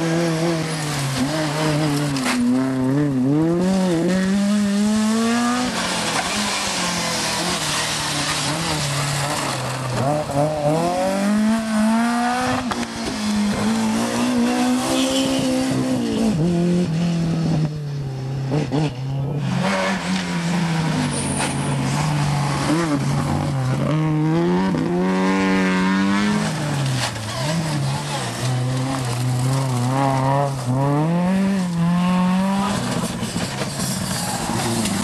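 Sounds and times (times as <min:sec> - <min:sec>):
rally car engines at full throttle: 0:00.0 - 0:35.0.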